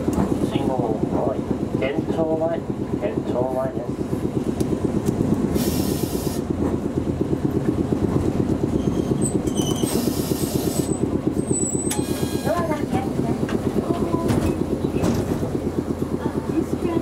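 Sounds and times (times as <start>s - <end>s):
streetcar rumbling and rattling: 0.0s - 17.0s.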